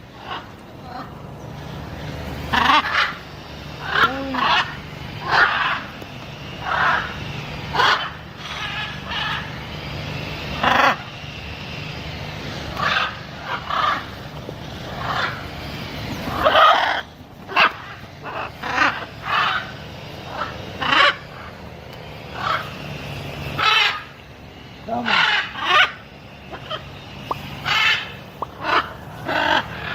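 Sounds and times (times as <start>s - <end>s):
macaw squawking: 0.1s - 21.6s, 22.2s - 29.9s.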